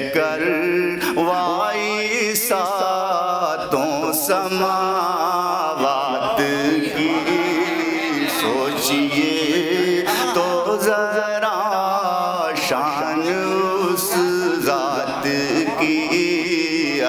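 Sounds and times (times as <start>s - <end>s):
person singing devotional poem: 0.0s - 17.0s.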